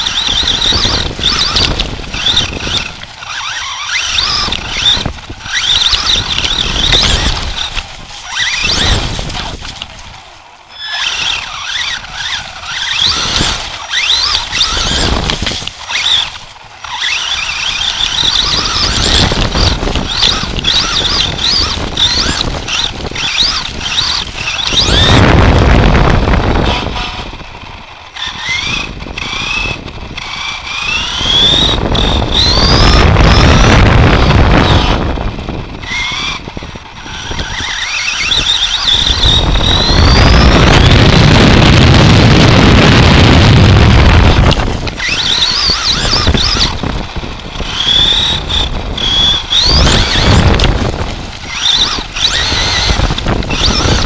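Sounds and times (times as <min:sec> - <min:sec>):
electric motor and gears whining: 0:00.0 - 0:54.0
tyres and chassis rumbling and rattling: 0:00.0 - 0:54.0.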